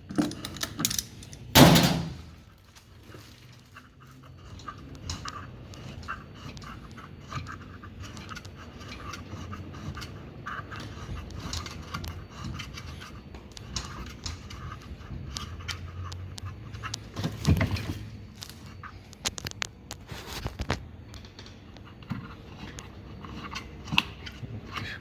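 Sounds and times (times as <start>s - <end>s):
tools clicking and scraping metal parts: 0.0s - 2.2s, 3.0s - 25.0s.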